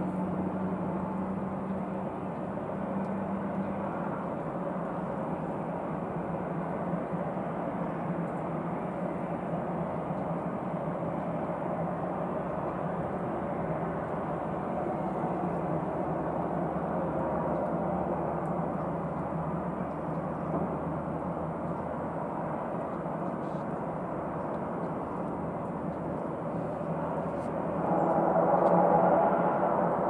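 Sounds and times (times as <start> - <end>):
turboprop propeller drone: 0.0 - 30.0.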